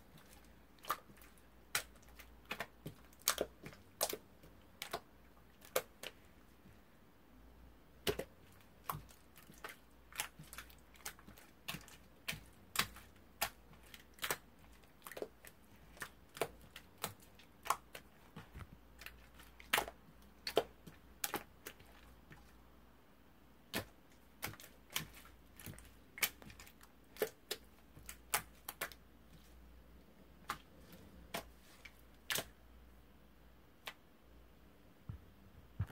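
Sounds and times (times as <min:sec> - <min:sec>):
faint low hum: 0:00.0 - 0:35.9.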